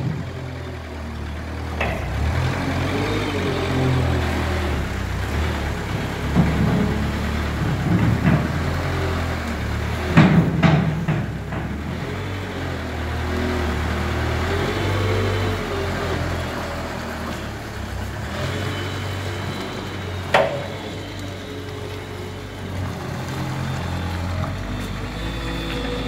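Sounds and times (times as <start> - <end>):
loader engine running: 0.0 - 26.0.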